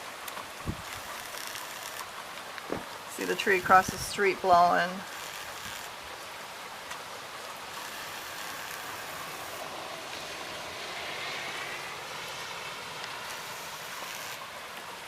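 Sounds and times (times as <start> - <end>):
pouring rain: 0.0 - 15.0.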